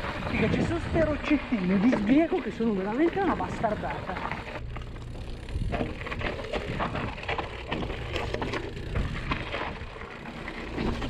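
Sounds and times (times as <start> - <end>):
bike clacking and rattling over rocks: 0.0 - 11.0
tyres crunching over loose stones: 0.0 - 11.0.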